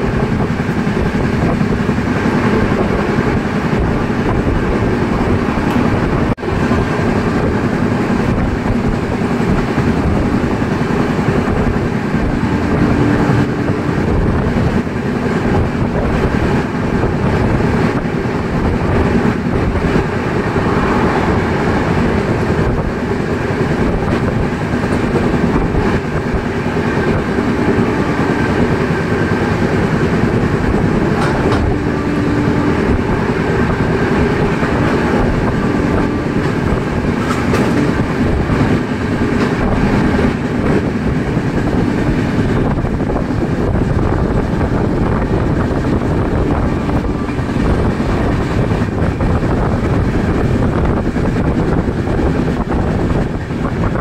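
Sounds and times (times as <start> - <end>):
rail joint clicks: 0.0 - 54.0
train wheels rumbling on rails: 0.0 - 54.0.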